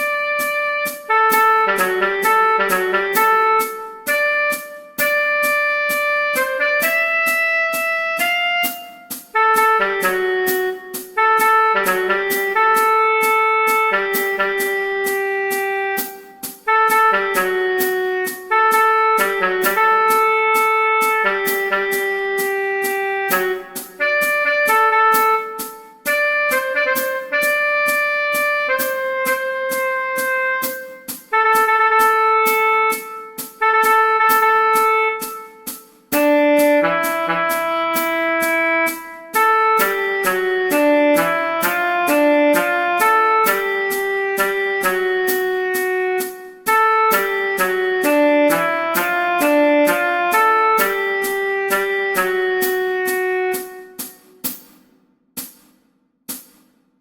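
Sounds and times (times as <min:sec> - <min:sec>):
saxophone melody: 0:00.0 - 0:54.5
backing track with steady beat: 0:00.0 - 0:57.0.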